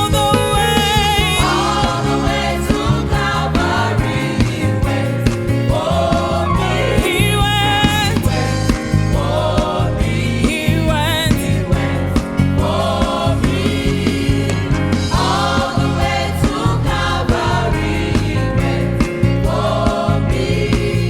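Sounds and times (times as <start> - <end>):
band accompaniment: 0.0 - 21.0
gospel choir singing: 0.0 - 21.0.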